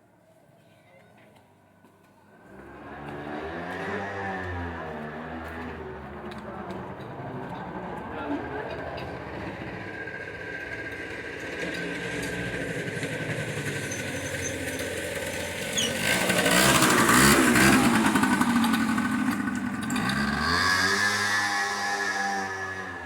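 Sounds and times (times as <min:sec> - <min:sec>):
motorbike engine passing: 0:02.3 - 0:23.0.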